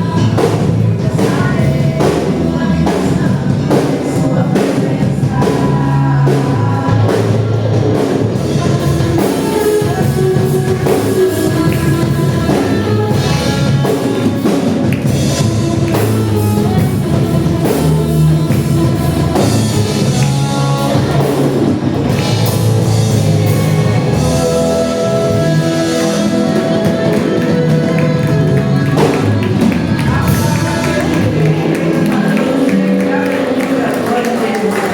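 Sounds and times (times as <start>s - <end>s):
gospel band with drum kit: 0.0s - 34.9s
person singing: 0.0s - 34.9s.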